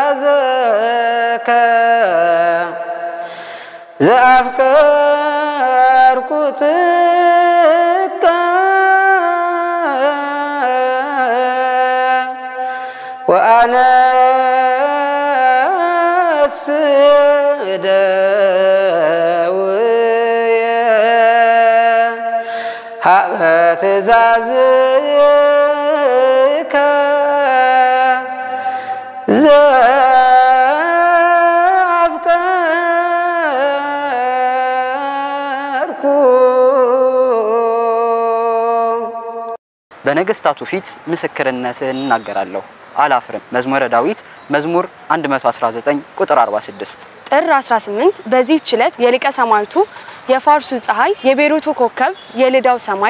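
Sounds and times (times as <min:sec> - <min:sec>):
man chanting: 0:00.0 - 0:47.2.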